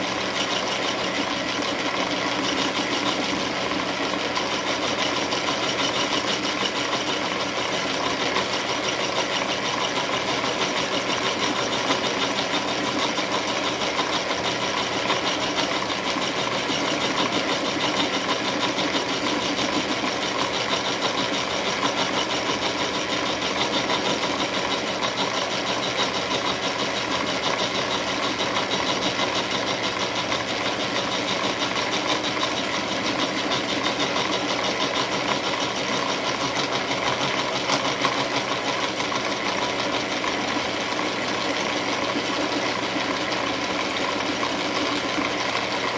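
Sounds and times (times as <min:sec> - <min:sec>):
milling machine cutting metal: 0:00.0 - 0:45.9.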